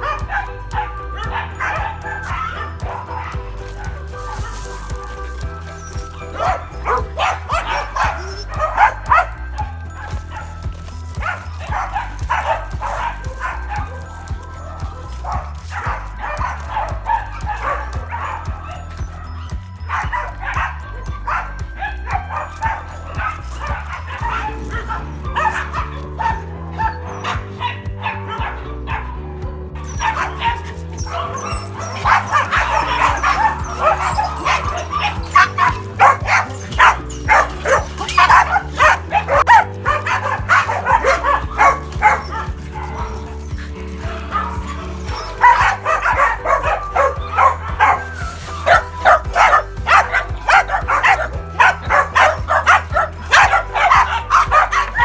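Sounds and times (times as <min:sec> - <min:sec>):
background music with bass line: 0:00.0 - 0:55.0
dogs barking: 0:00.0 - 0:55.0.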